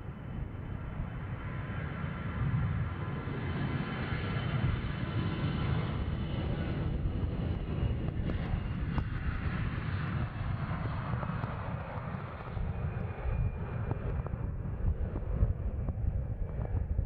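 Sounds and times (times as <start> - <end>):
jet engine rumble and hiss: 0.0 - 17.0.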